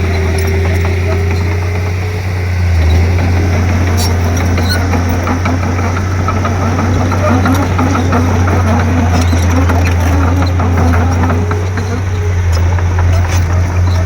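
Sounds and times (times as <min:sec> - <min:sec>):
machine clanks and clicks: 0:00.0 - 0:02.2, 0:02.8 - 0:14.0
bulldozer diesel engine droning: 0:00.0 - 0:14.0.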